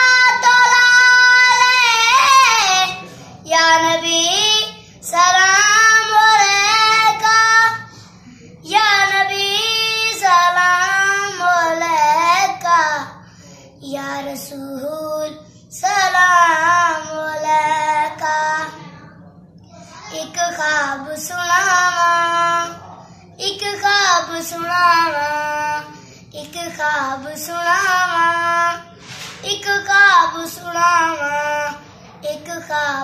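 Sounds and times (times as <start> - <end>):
boy singing unaccompanied: 0.0 - 7.9, 8.6 - 13.2, 13.8 - 19.0, 20.0 - 33.0.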